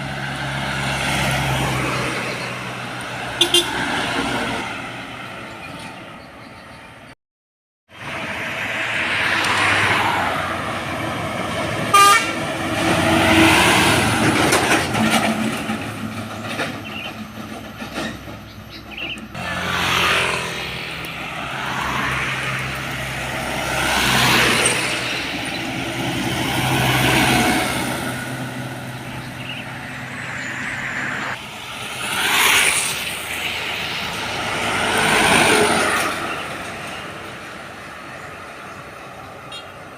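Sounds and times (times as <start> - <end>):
vehicles rushing past: 0.0 - 7.2, 7.9 - 39.9.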